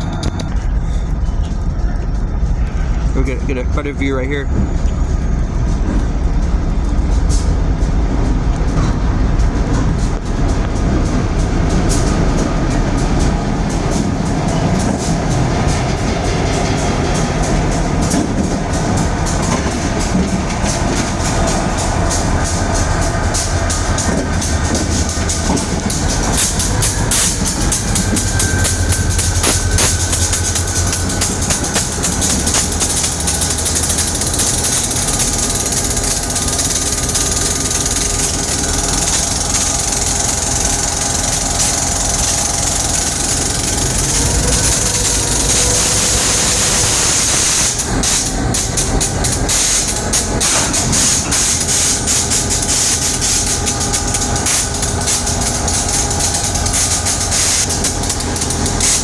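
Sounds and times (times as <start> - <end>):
diesel locomotives moving slowly: 0.0 - 59.0
wheels clicking on track: 0.0 - 59.0
steady hiss: 11.0 - 59.0.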